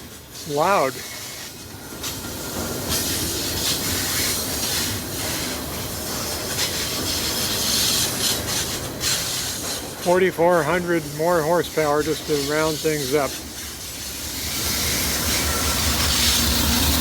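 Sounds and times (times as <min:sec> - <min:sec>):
diesel locomotive rumbling: 0:00.0 - 0:17.0
strong hiss: 0:00.0 - 0:17.0.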